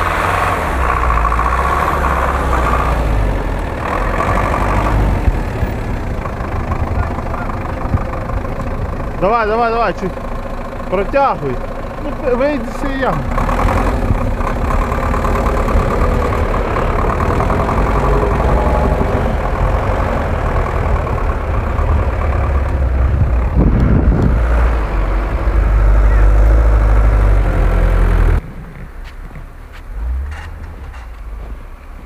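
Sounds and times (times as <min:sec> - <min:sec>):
truck engine running hard: 0:00.0 - 0:28.7.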